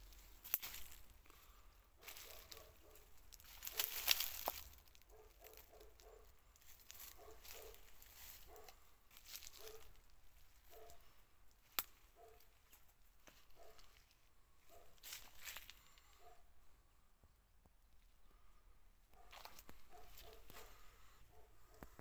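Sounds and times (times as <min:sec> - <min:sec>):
leaves and brush rustling: 0:00.0 - 0:16.4, 0:19.2 - 0:21.2.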